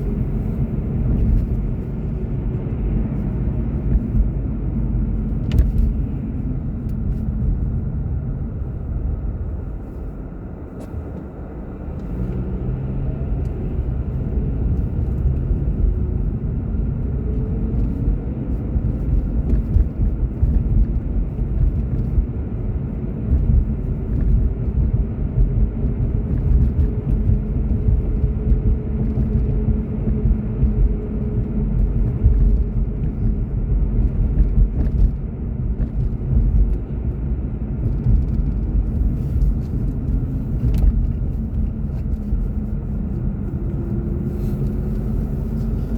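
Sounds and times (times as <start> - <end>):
car engine and road noise: 0.0 - 45.9.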